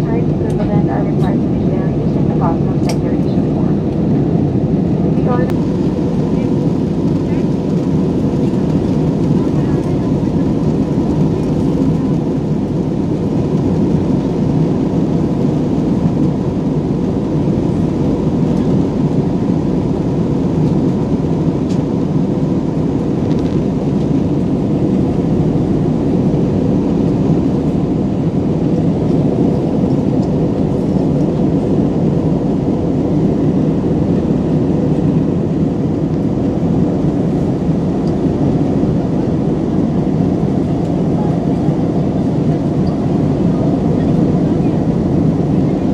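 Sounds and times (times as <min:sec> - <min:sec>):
jet cabin engine and airflow rush: 0:00.0 - 0:45.9.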